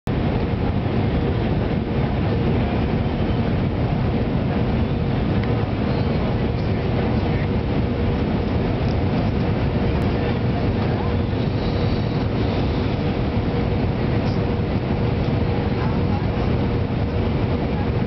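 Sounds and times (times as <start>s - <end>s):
airliner cabin engine and airflow noise: 0.1s - 18.0s.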